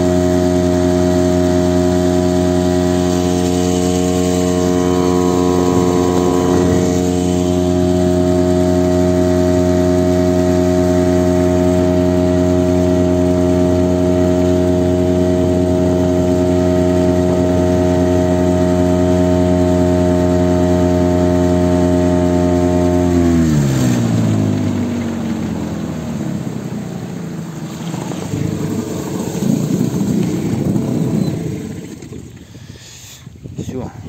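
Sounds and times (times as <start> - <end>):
outboard motor running: 0.0 - 34.0
water and hull noise: 0.0 - 34.0.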